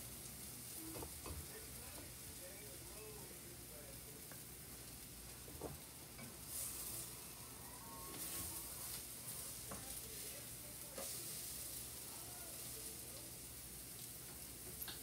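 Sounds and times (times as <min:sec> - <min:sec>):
batter sizzling in a frying pan: 0:00.0 - 0:15.0.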